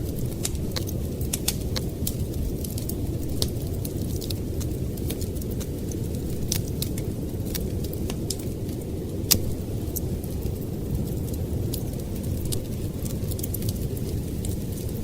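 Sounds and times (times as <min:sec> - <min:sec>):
blizzard wind rumble: 0:00.0 - 0:15.0
wood fire crackling: 0:00.0 - 0:15.0.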